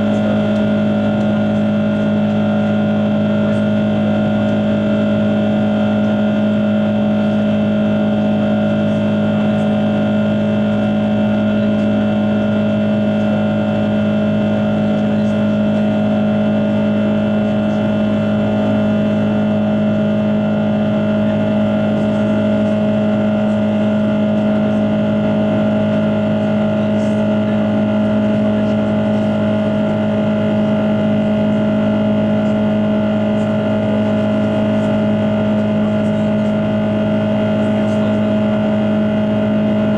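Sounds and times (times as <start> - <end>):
aircraft cabin engine hum: 0.0 - 39.9.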